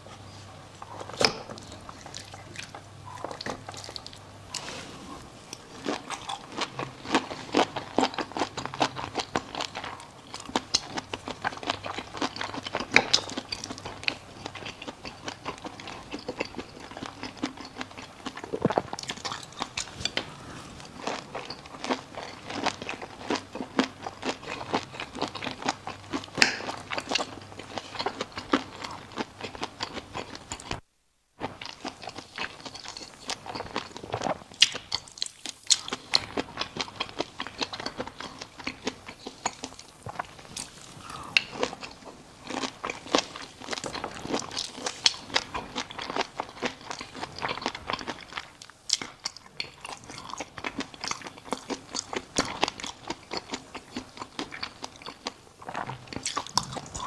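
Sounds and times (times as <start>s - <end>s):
person chewing crunchy food: 0.0s - 30.8s, 31.4s - 57.0s.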